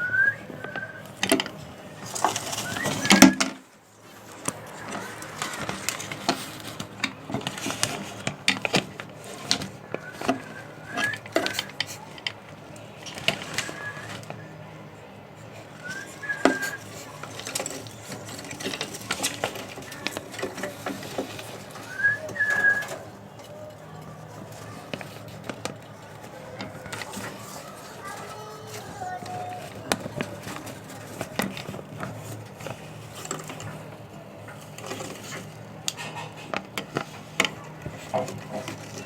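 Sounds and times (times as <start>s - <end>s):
caged birds chirping: 0.0s - 39.0s
light clicks and clatters: 0.1s - 39.0s.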